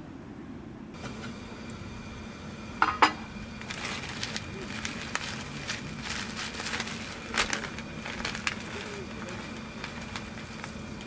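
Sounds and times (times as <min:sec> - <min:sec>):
faint hum: 0:00.0 - 0:11.0
fire crackling and popping: 0:01.0 - 0:11.0.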